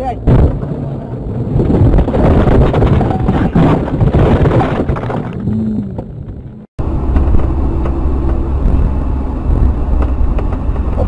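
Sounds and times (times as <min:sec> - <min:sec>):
loud rough vehicle rumble: 0:00.0 - 0:11.0
moving car low rumble: 0:00.0 - 0:11.0.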